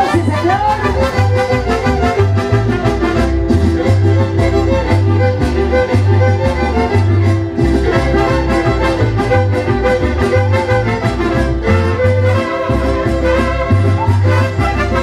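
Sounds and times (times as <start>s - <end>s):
bass line: 0.0s - 15.0s
strummed guitars: 0.0s - 15.0s
violins playing melody: 0.0s - 15.0s.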